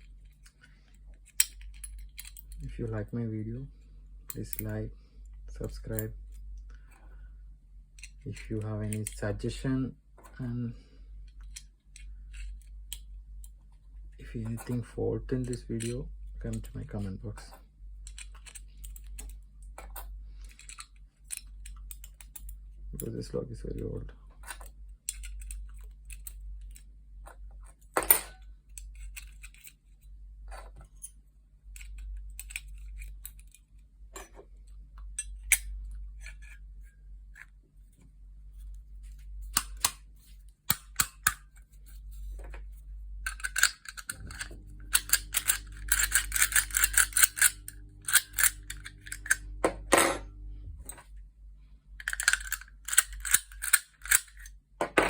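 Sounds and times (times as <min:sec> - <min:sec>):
metal lock parts clicking and rattling: 0:00.0 - 0:03.1, 0:04.2 - 0:04.8, 0:05.5 - 0:06.9, 0:07.9 - 0:09.4, 0:11.2 - 0:37.6, 0:38.6 - 0:50.2, 0:52.0 - 0:55.0
faint low hum: 0:00.0 - 0:55.0.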